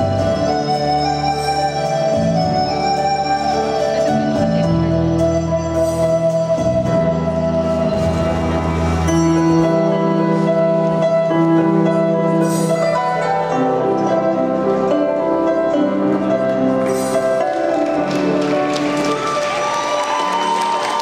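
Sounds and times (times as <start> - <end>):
slow instrumental music: 0.0 - 21.0.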